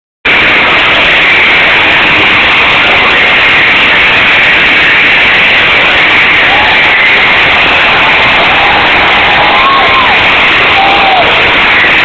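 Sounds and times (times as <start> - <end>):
crowd cheering and screaming: 0.3 - 12.0.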